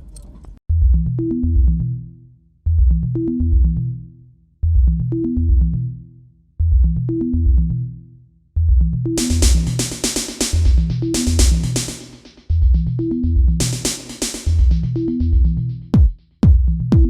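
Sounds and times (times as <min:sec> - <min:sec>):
synth bass with drum-machine beat: 0:00.7 - 0:02.0, 0:02.7 - 0:08.0, 0:08.6 - 0:17.0.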